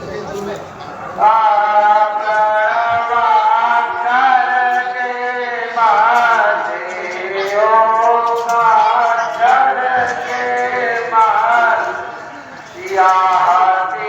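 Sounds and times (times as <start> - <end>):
voices chanting held notes: 0.0 - 14.0.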